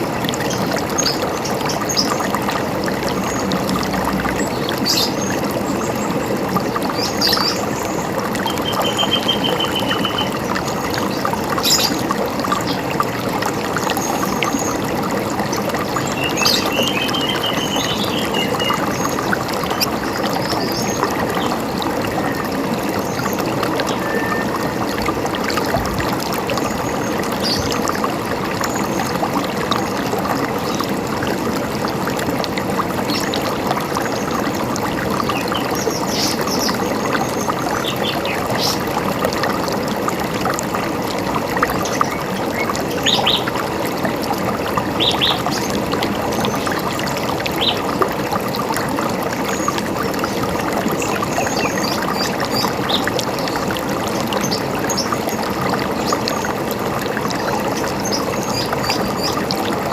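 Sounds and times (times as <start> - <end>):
river water running and splashing: 0.0 - 59.9.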